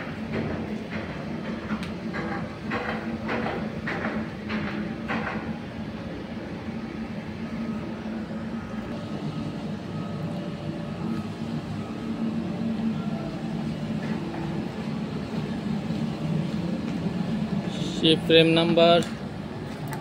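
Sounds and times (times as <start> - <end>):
machinery drone: 0.0 - 20.0.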